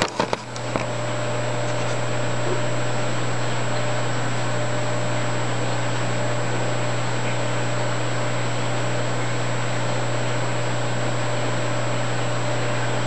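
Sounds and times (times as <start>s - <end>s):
aquarium pumps humming: 0.0s - 13.0s.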